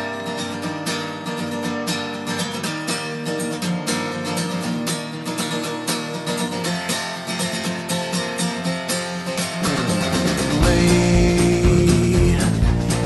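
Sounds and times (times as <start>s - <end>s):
strummed acoustic guitar music: 0.0s - 13.0s.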